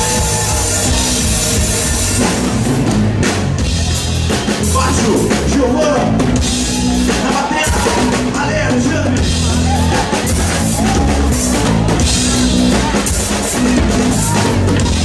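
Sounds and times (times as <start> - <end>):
drum kit: 0.0 - 15.0
live rock band playing: 0.0 - 15.0
steady bass notes: 0.0 - 15.0.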